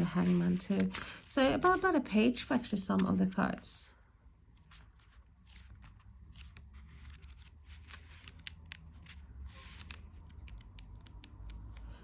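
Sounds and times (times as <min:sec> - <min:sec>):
book pages turning: 0:00.0 - 0:03.4, 0:04.5 - 0:12.0.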